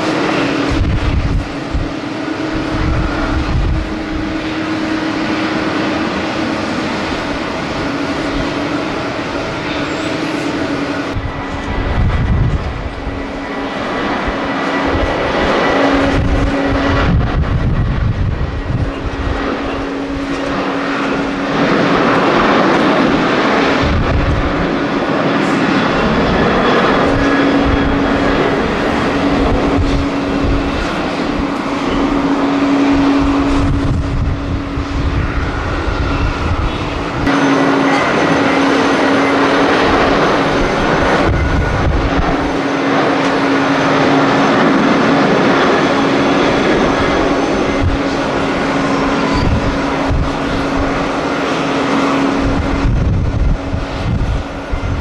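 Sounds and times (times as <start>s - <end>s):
jet engines at takeoff: 0.0s - 55.0s
wind buffeting microphone: 0.0s - 55.0s.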